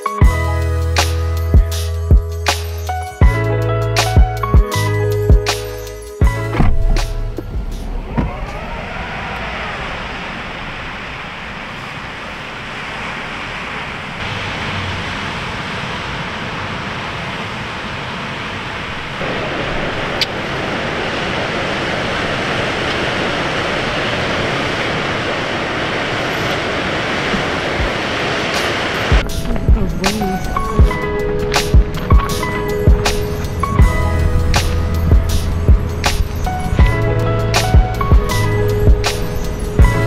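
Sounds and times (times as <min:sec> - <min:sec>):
wind: 0:00.0 - 0:40.0
surf washing over rocks: 0:06.5 - 0:40.0.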